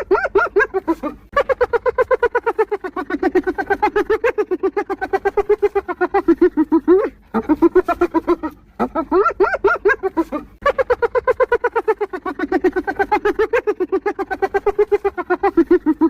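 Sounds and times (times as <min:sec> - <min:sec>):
hyena giggling: 0:00.0 - 0:16.0.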